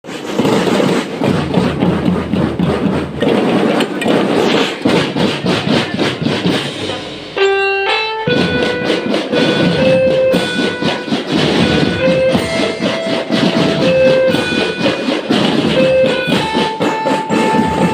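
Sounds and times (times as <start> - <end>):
rhythmic drum beat: 0.0 - 17.9
marching band playing: 0.1 - 17.9.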